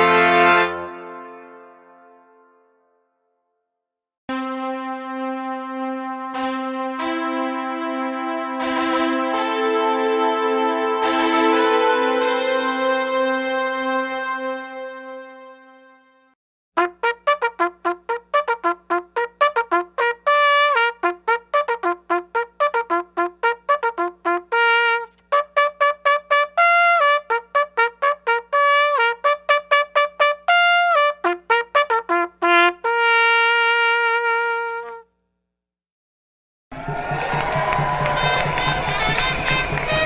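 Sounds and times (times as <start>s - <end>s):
solo trumpet fanfare: 0.0s - 2.7s, 4.3s - 16.2s, 16.8s - 35.1s, 36.8s - 40.0s.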